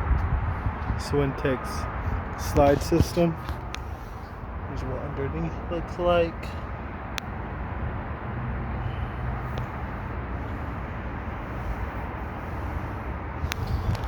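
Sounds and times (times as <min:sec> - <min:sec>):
outdoor background rumble and hiss: 0:00.0 - 0:14.0.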